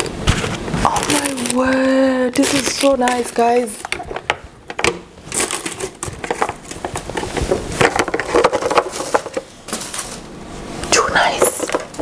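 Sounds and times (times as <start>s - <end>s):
packing paper crinkling: 0.3s - 10.3s.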